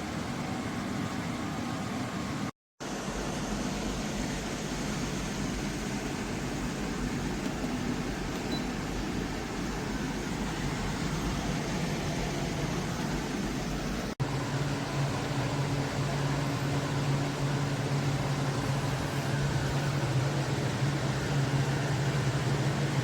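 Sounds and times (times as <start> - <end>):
air conditioner fan rushing: 0.0 - 23.0.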